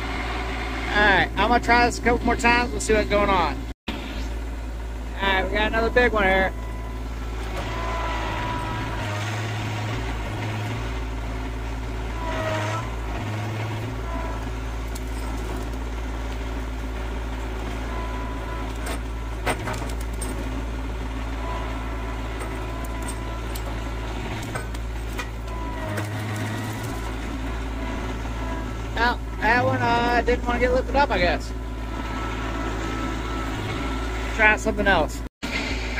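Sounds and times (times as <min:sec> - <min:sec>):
hydraulic whine: 0:00.0 - 0:35.9
tractor diesel engine running: 0:00.0 - 0:35.9.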